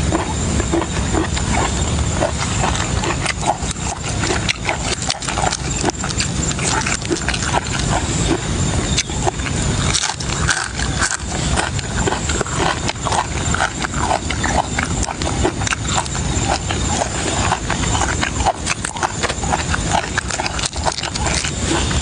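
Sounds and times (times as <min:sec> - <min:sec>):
chewing and smacking: 0:00.0 - 0:22.0
steady low rumble: 0:00.0 - 0:22.0.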